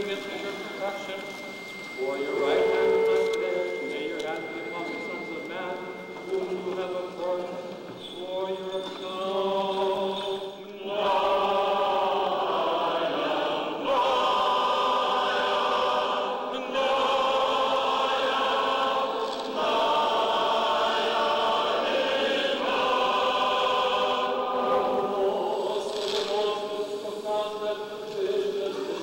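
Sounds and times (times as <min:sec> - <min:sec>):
choir singing chant: 0:02.0 - 0:05.4, 0:08.1 - 0:29.0.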